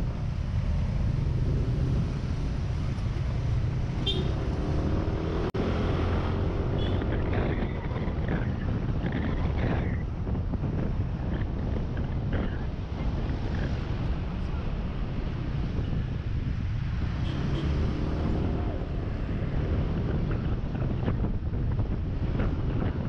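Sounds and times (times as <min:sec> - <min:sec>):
scooter engine and road rumble: 0:00.0 - 0:23.0
vehicles passing: 0:00.0 - 0:23.0.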